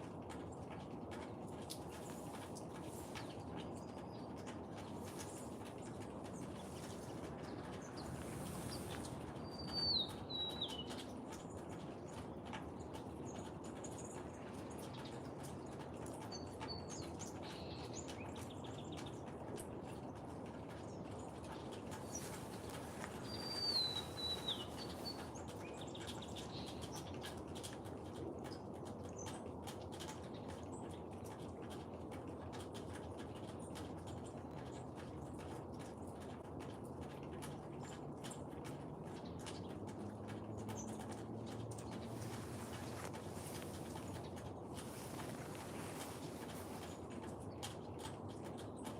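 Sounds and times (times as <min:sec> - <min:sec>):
low background noise: 0:00.0 - 0:48.9
low outdoor background noise: 0:00.0 - 0:48.9.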